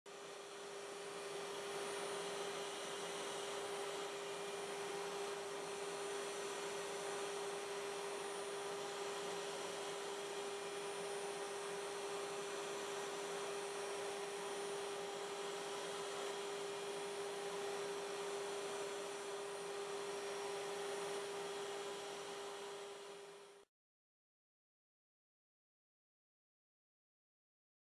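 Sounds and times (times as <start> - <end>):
wood router spinning: 0.1 - 23.6.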